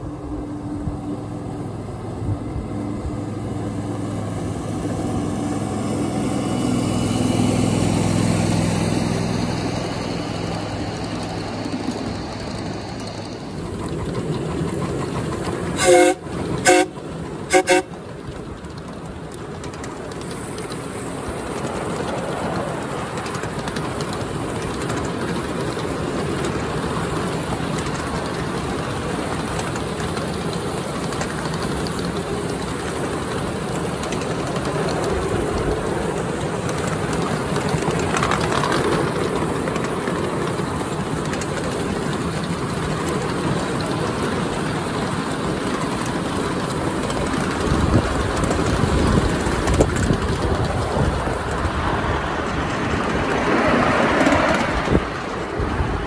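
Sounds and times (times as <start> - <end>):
small wheels rumbling on rail: 0.0 - 56.0
clicks and knocks of track: 8.9 - 56.0.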